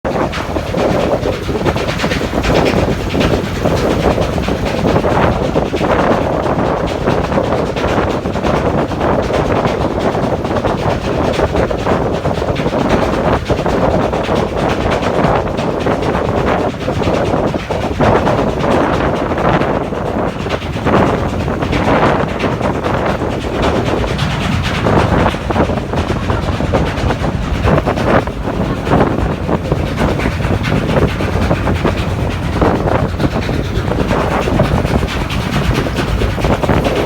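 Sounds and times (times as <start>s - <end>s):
ferry rattling: 0.1s - 37.0s.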